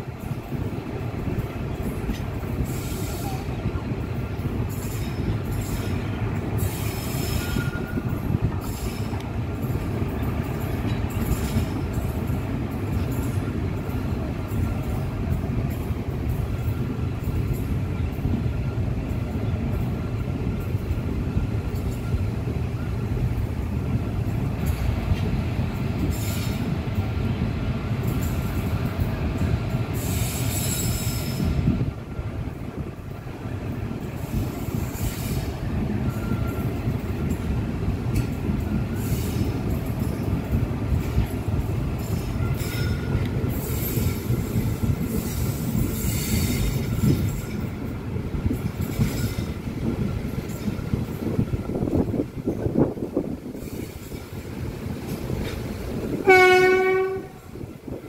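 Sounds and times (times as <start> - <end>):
train rumbling past: 0.0 - 58.0
train wheel squeal: 1.4 - 23.5, 24.3 - 31.8, 33.5 - 57.2.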